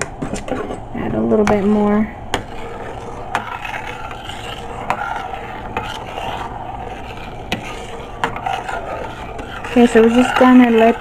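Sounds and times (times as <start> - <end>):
metal spoon scraping pot: 0.3 - 11.0.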